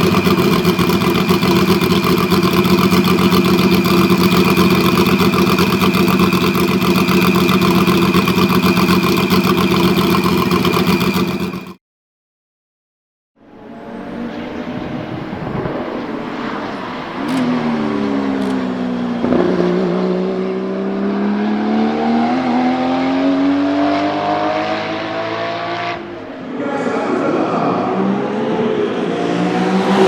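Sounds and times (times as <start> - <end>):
twin-turbo car engine running: 0.0 - 11.8, 13.4 - 26.5, 27.7 - 30.0.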